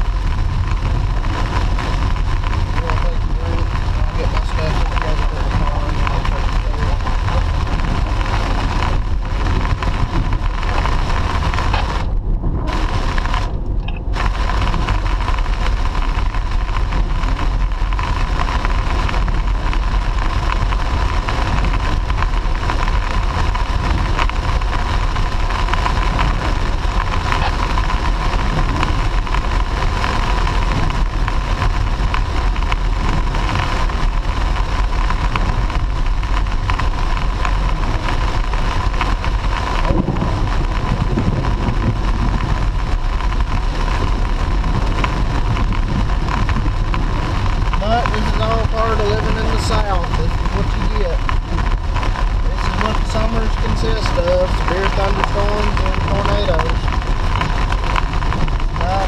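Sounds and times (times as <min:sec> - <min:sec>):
car road and engine noise: 0:00.0 - 0:59.0
constant hum: 0:00.0 - 0:59.0.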